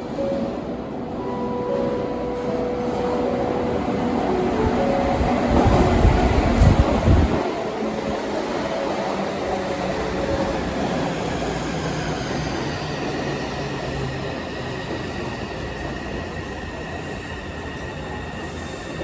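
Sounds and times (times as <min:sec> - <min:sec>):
train rumble and hiss: 0:00.0 - 0:19.0.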